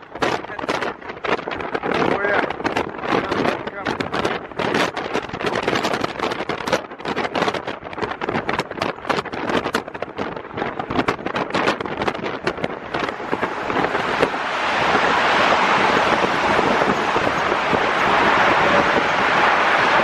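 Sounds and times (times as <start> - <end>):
road noise: 0.0 - 20.0
wind buffeting microphone: 0.0 - 20.0.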